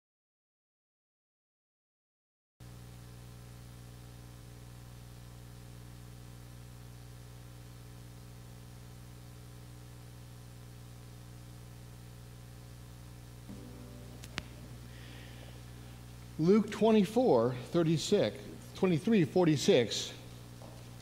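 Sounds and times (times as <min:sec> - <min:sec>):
electrical mains hum: 0:02.6 - 0:21.0.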